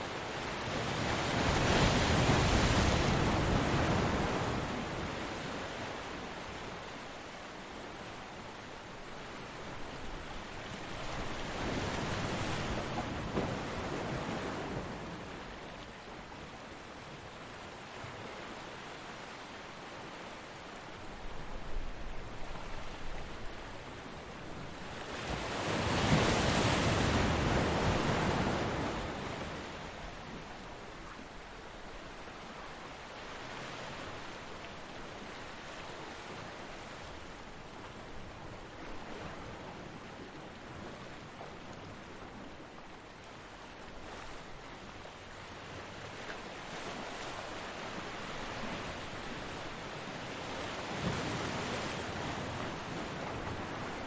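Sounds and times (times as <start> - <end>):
ocean surf on a beach: 0.0 - 54.0.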